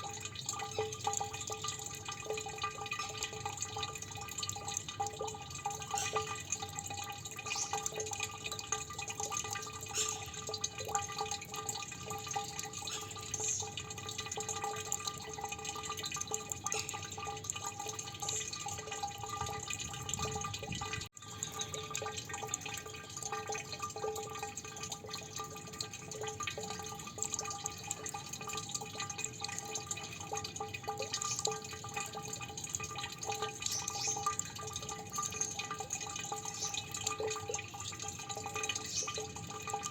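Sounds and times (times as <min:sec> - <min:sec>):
water dripping: 0:00.0 - 0:39.9.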